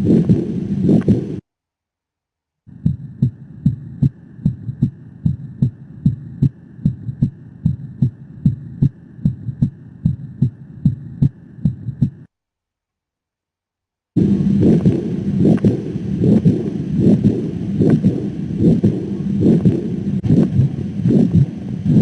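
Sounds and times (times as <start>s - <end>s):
low heartbeat thumps: 0.0s - 1.4s, 2.7s - 12.3s, 14.2s - 22.0s.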